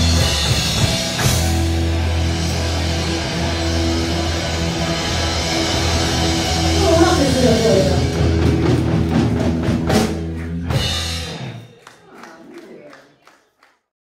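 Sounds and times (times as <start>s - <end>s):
live rock band playing: 0.0s - 12.4s.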